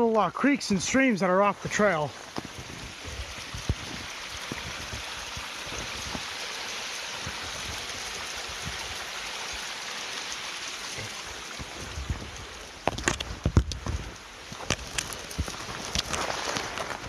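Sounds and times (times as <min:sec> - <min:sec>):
creek flowing: 0:00.0 - 0:17.0.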